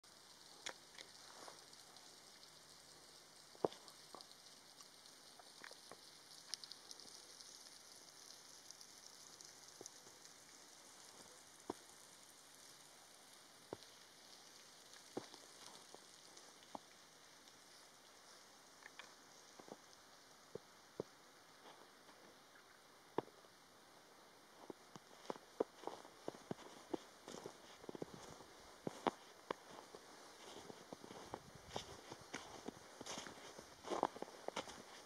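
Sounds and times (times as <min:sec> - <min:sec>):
faint high hiss: 0:00.0 - 0:35.0
soft ticks and crackles: 0:00.0 - 0:35.0.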